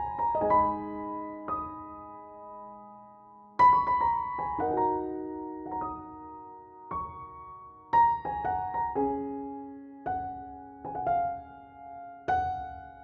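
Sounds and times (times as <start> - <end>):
soft solo piano music: 0.0 - 13.0.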